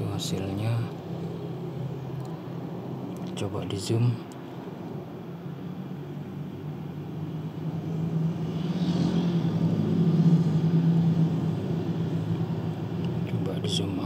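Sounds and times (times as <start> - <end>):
vehicle hum inside car: 0.0 - 14.0
vehicle passing outside: 0.0 - 14.0.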